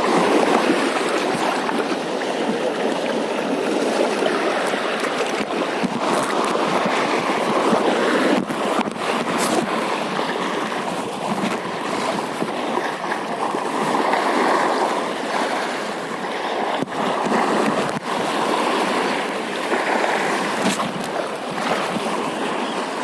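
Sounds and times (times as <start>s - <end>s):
sea waves rushing: 0.0s - 23.0s
wind: 0.0s - 23.0s.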